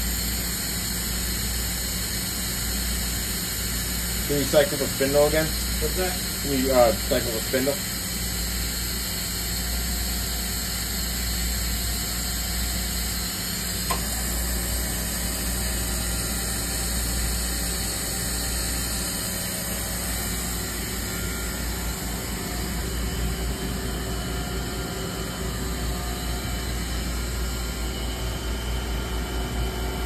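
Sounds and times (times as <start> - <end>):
machine humming and hissing: 0.0 - 30.0.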